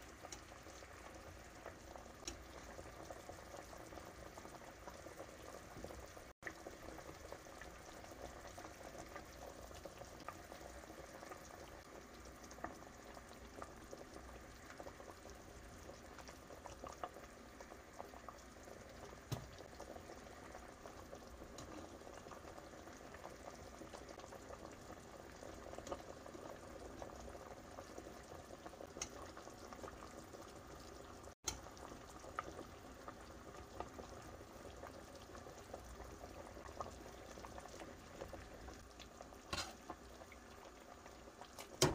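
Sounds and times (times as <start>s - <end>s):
soup bubbling in a pot: 0.0s - 41.9s.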